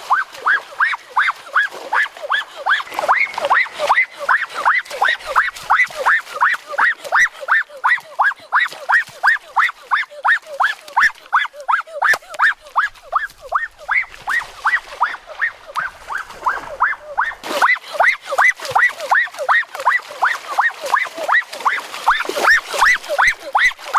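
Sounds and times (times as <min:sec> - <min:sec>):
water splash: 0:00.0 - 0:07.6, 0:12.0 - 0:23.9
animal calling rhythmically: 0:00.0 - 0:23.9.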